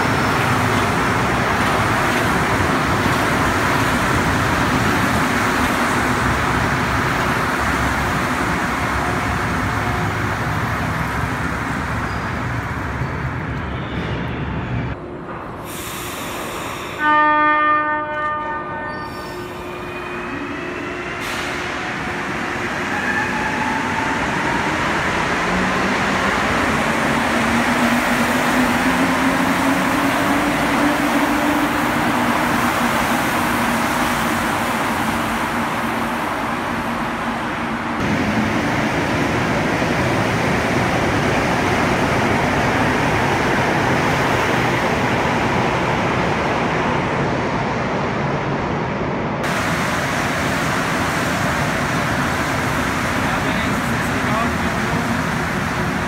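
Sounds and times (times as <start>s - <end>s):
train rumbling past: 0.0s - 56.0s.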